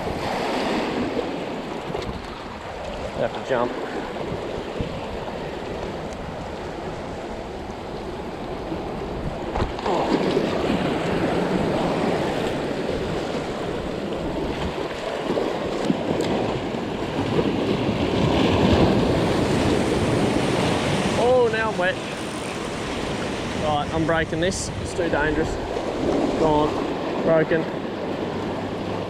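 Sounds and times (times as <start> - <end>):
wind on microphone: 0.0 - 27.4
sea waves washing over rocks: 0.0 - 29.0.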